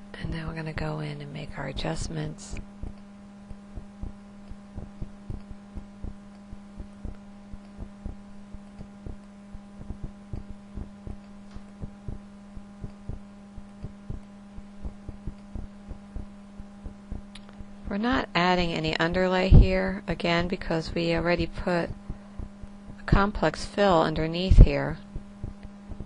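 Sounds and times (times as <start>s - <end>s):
low electrical hum: 0.0s - 26.0s
soft low thumps: 1.9s - 19.9s, 21.0s - 26.0s.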